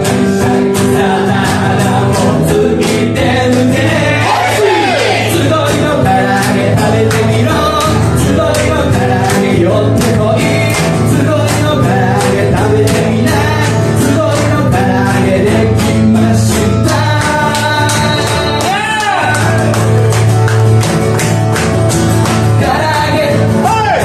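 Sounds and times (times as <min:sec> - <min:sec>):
person singing: 0:00.0 - 0:19.8
bass guitar: 0:00.0 - 0:24.0
strummed acoustic guitar: 0:00.0 - 0:24.0.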